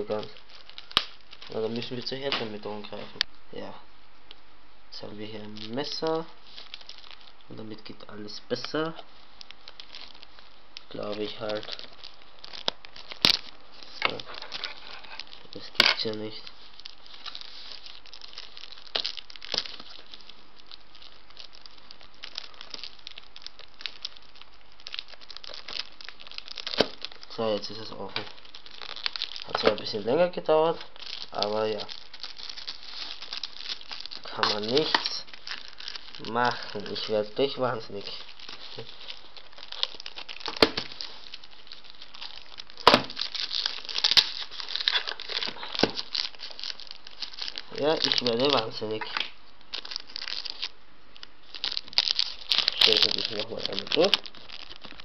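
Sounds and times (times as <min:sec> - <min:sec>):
plastic packaging crinkling: 0:00.0 - 0:03.4, 0:05.0 - 0:55.0.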